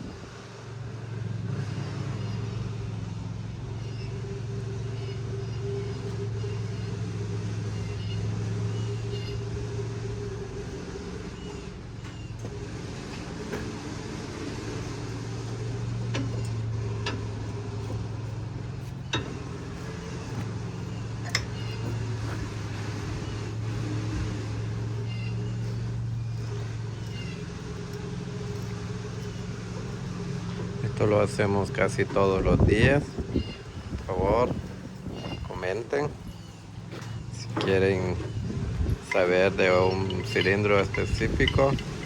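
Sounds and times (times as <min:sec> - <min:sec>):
low mechanical motor hum: 0:00.0 - 0:42.0.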